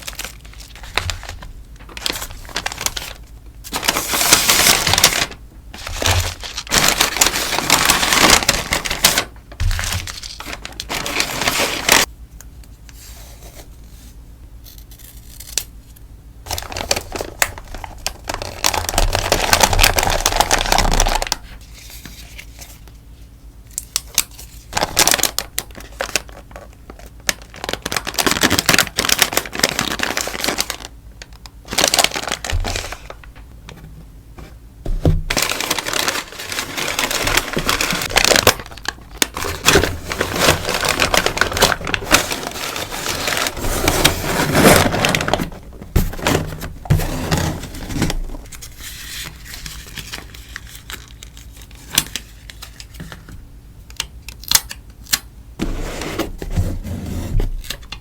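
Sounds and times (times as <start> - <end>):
sticker packaging crinkling: 0.0 - 12.1, 16.5 - 22.7, 23.8 - 33.9, 35.3 - 53.4.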